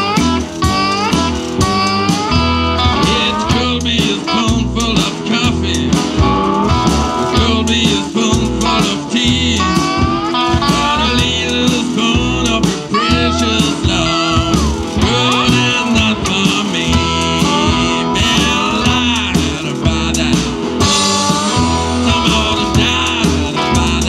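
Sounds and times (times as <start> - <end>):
drum kit beat: 0.0 - 24.0
electric blues band playing: 0.0 - 24.0
sliding guitar notes: 0.0 - 24.0.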